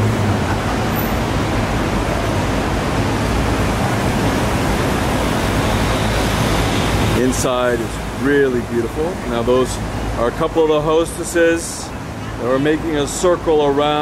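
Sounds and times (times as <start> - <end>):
passing cars: 0.0 - 14.0.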